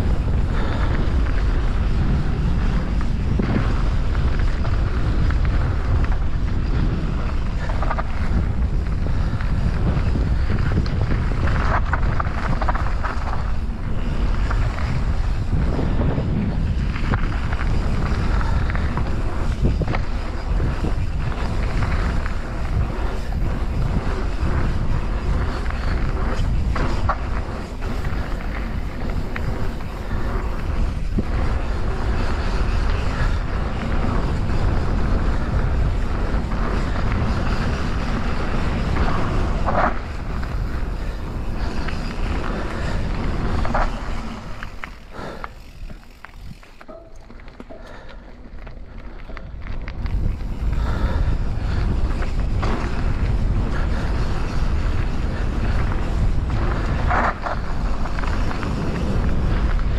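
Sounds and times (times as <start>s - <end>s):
bike clicks and knocks: 0.0s - 59.9s
tyres on gravel trail: 0.0s - 59.9s
wind buffeting microphone: 0.0s - 59.9s.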